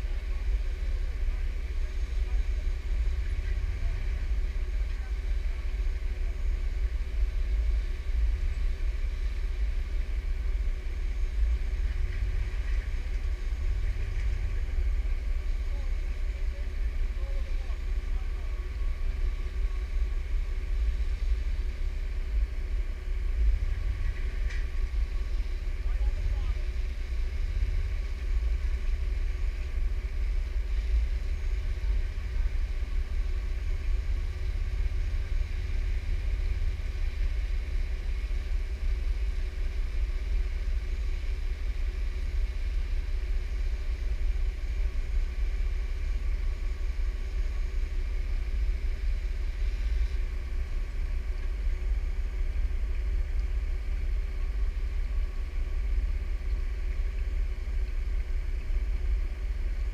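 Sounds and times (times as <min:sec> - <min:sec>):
engine idling rumble: 0:00.0 - 0:59.9
faint steady whine: 0:00.0 - 0:59.9.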